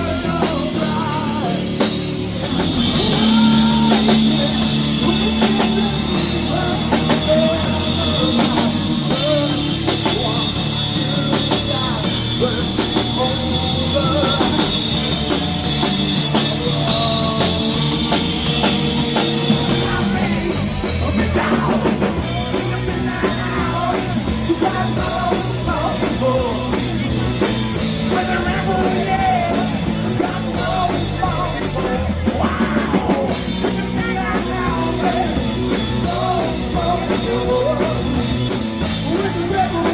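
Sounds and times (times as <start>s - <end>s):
person singing: 0.0s - 18.8s, 19.5s - 39.9s
drum kit: 0.0s - 39.9s
rock band playing: 0.0s - 39.9s.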